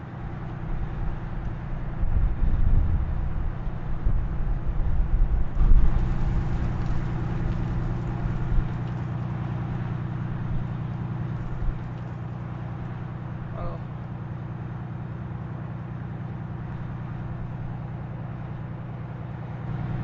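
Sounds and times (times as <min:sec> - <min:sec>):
low rumbling: 0:00.0 - 0:20.0
low hum: 0:00.2 - 0:20.0.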